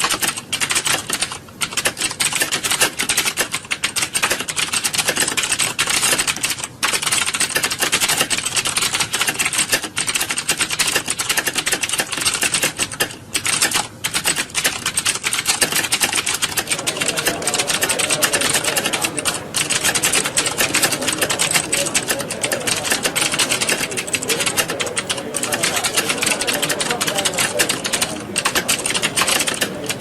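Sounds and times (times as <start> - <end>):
clatter of keyboard typing: 0.0 - 30.0.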